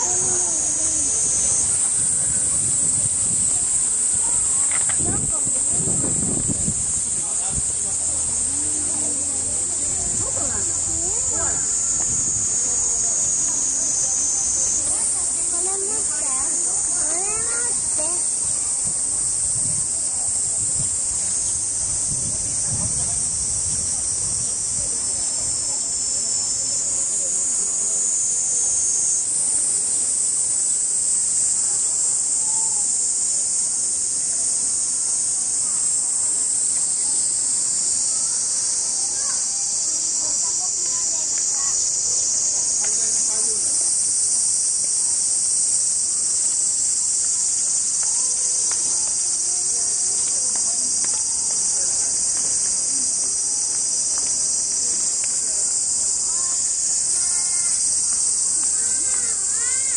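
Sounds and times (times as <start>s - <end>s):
cicadas droning: 0.0s - 59.9s
faint distant voices: 0.0s - 59.9s.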